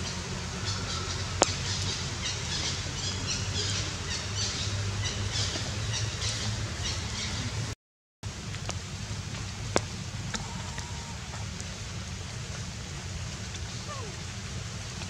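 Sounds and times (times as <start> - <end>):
background hiss and low hum: 0.0 - 7.7, 8.3 - 15.0.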